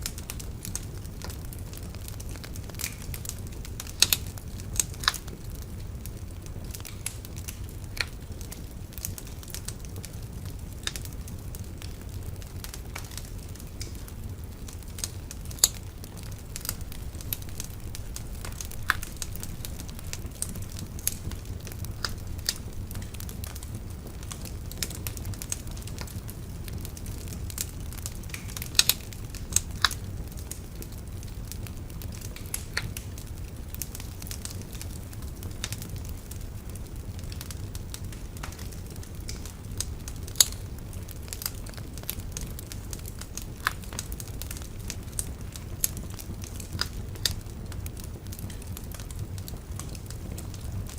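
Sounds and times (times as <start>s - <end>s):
burning wood crackling: 0.0s - 50.9s
flames rumbling: 0.0s - 50.9s.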